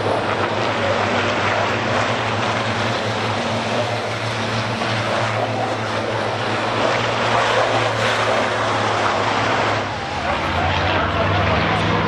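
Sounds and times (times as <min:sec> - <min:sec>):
diesel truck engines droning: 0:00.0 - 0:12.0.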